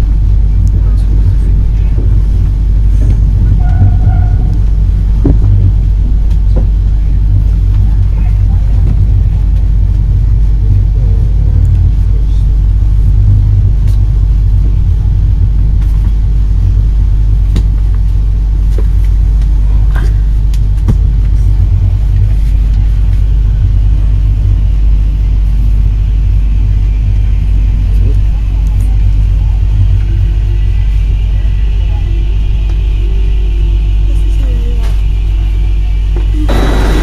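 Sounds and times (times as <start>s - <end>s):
train carriage rumbling: 0.0s - 37.0s.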